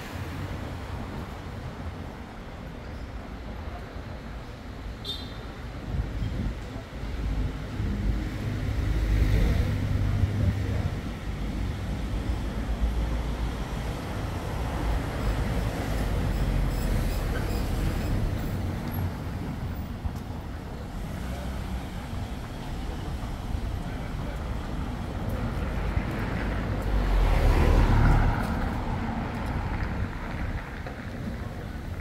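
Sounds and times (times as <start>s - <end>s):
vehicles driving past: 0.0s - 32.0s.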